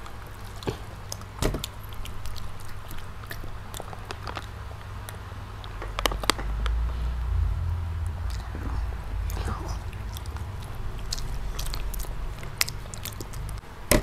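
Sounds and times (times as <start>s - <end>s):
wet chewing and mouth smacks: 0.0s - 6.8s, 8.2s - 13.7s
low steady hum: 0.0s - 14.0s.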